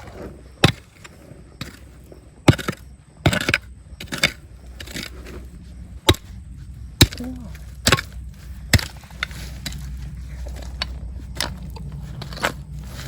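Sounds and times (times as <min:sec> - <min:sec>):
low background rumble: 0:00.0 - 0:13.0
digging tool striking rock: 0:00.6 - 0:05.2, 0:06.0 - 0:06.4, 0:07.0 - 0:12.6.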